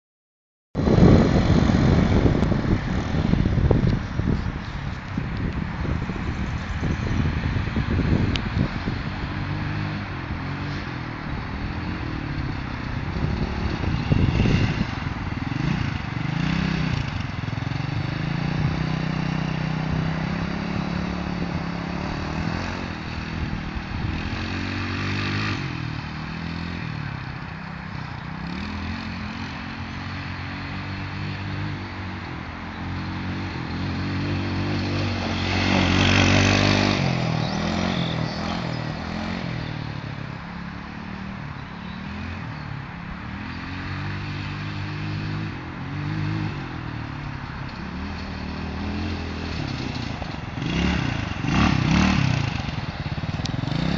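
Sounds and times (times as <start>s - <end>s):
dune buggy engine running: 0.8s - 53.9s.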